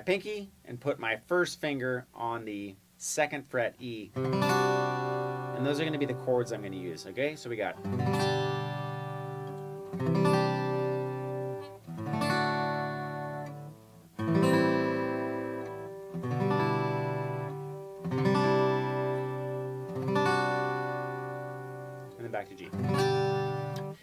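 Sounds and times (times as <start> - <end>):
acoustic guitar strumming: 3.7 - 24.0.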